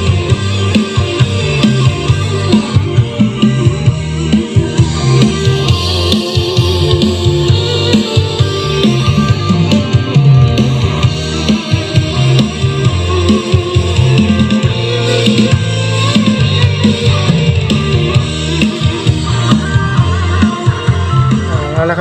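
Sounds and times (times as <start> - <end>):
song with drums guitar and bass: 0.0 - 22.0.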